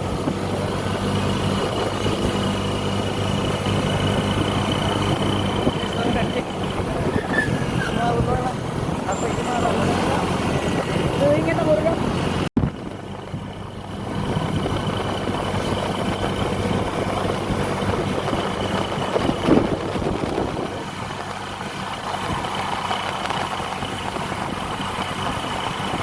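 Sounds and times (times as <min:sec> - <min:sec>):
diesel bus engine idling: 0:00.0 - 0:07.4, 0:08.0 - 0:26.0.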